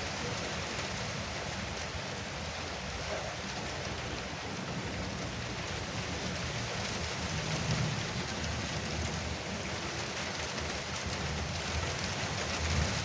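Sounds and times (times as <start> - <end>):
heavy rain drumming on roof: 0.0 - 13.0.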